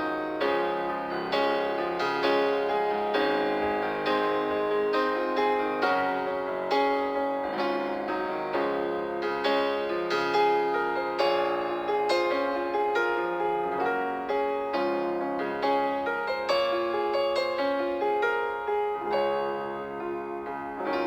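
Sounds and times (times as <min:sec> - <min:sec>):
solo piano piece: 0:00.0 - 0:21.0.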